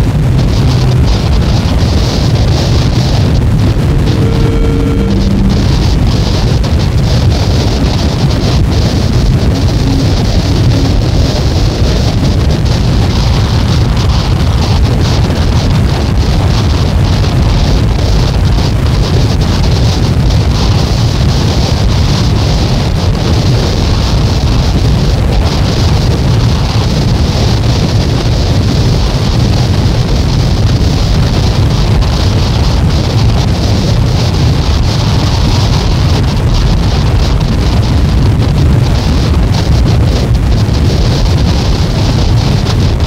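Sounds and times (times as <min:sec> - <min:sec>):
dense wall of noise: 0:00.0 - 0:43.0
heavy rumble: 0:00.0 - 0:43.0.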